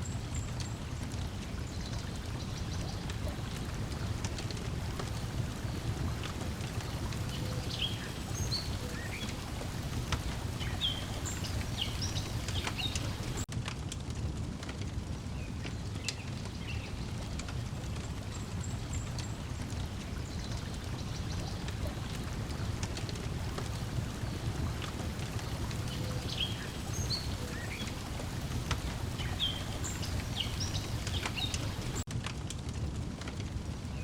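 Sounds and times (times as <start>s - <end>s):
birds chirping: 0.0s - 13.5s, 18.0s - 32.1s
water lapping: 0.0s - 13.5s, 16.6s - 32.1s
wood fire crackling and popping: 0.0s - 34.0s.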